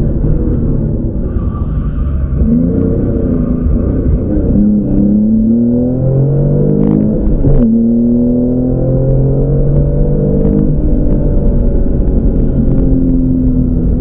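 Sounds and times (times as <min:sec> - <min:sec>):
car engine pulling hard: 0:00.0 - 0:14.0.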